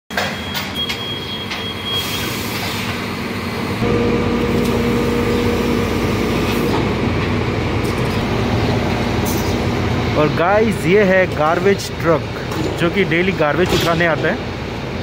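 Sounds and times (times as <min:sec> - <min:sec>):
garbage truck running: 0:00.1 - 0:15.0
hydraulic packer humming: 0:00.1 - 0:15.0.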